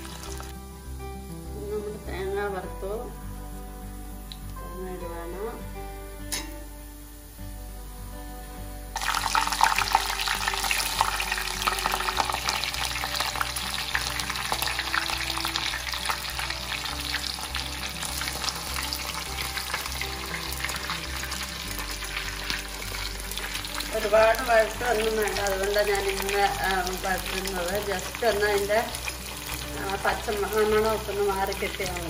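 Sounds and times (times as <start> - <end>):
onions sizzling in hot oil: 0.0 - 32.0
soft background music: 0.0 - 32.0.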